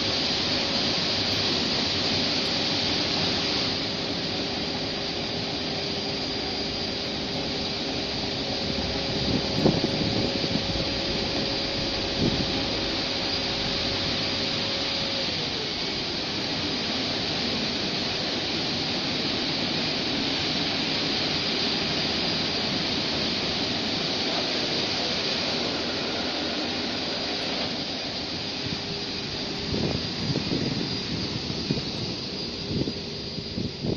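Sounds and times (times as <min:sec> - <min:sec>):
car wash water spray and brushes: 0:00.0 - 0:32.9
machine hum: 0:00.0 - 0:33.9.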